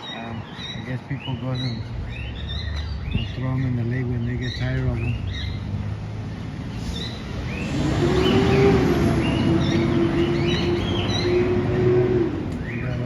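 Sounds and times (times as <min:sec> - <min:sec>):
caged birds chirping: 0:00.0 - 0:13.0.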